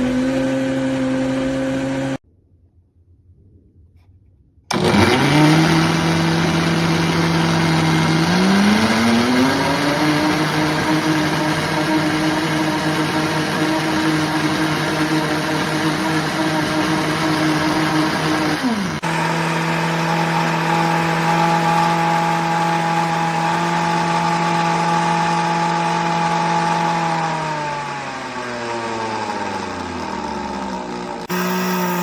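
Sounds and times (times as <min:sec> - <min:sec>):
blender motor running: 0:00.0 - 0:02.2, 0:04.7 - 0:32.0.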